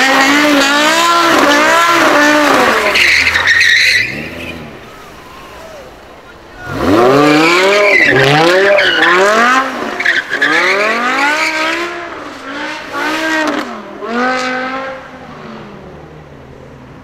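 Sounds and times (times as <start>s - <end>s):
car engine revving through gears: 0.0s - 4.8s, 6.6s - 15.8s.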